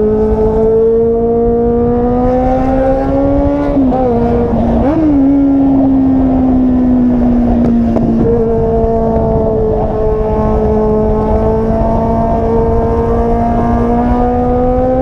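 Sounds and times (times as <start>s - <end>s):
low road rumble: 0.0s - 15.0s.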